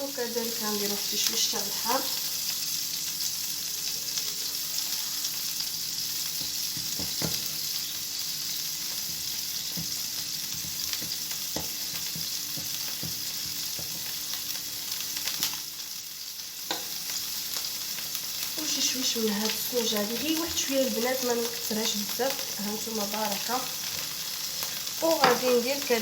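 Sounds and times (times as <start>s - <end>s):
oil sizzling in a frying pan: 0.0s - 26.0s.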